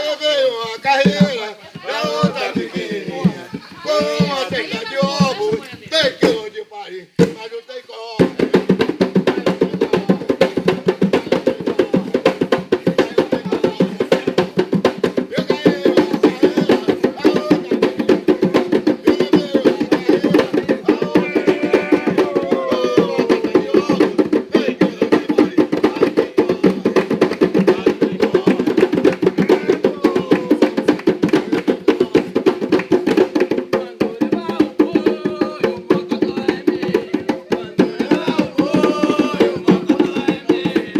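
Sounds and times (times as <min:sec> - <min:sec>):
voices singing: 0:00.0 - 0:40.9
hand drums playing fast rhythm: 0:00.6 - 0:06.6, 0:08.2 - 0:40.9.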